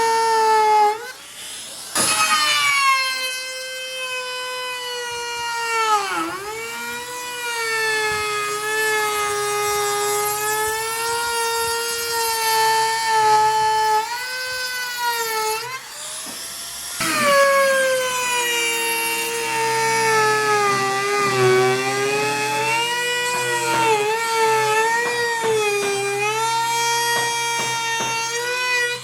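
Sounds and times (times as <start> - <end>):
electric power tool whining: 0.0 - 29.0.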